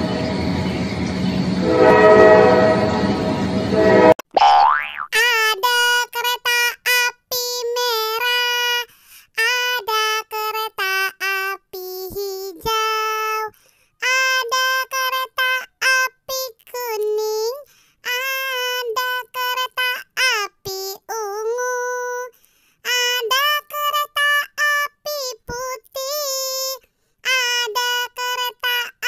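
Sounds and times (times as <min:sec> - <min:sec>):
child-like voice singing: 0:05.2 - 0:29.0.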